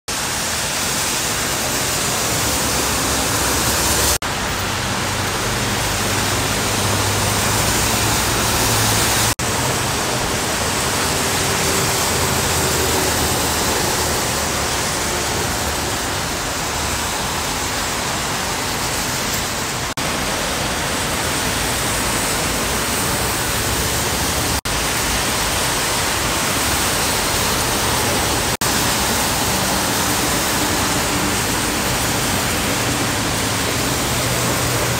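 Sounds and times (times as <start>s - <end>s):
heavy rain: 0.1s - 34.9s
tyres on wet road: 0.1s - 34.9s.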